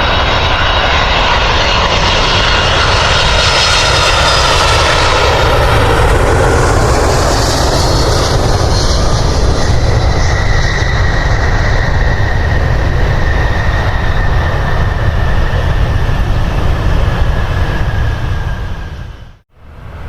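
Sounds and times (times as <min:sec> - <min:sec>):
high jet engine whine: 0:00.0 - 0:20.0
jet engines rumbling: 0:00.0 - 0:20.0.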